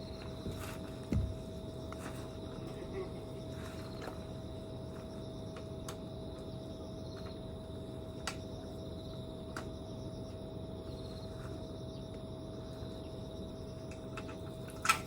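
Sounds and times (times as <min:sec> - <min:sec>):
faint steady hum: 0:00.0 - 0:15.0
insects chirping: 0:00.0 - 0:15.0.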